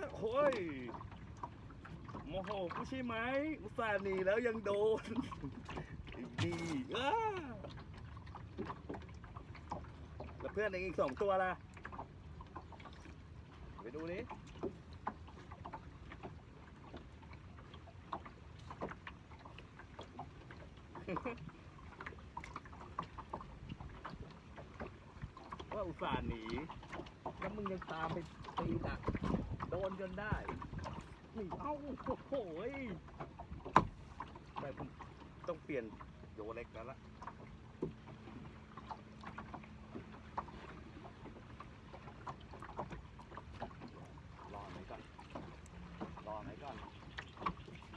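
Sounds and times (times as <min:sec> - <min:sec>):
rumble of water and wind: 0:00.0 - 0:47.9
water splashes: 0:00.0 - 0:47.9.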